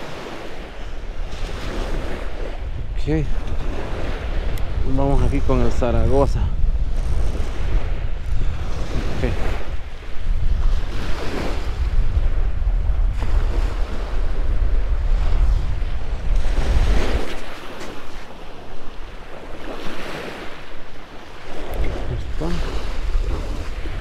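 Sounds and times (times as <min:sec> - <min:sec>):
small waves breaking on beach: 0:00.0 - 0:24.0
wind buffeting microphone: 0:00.0 - 0:24.0.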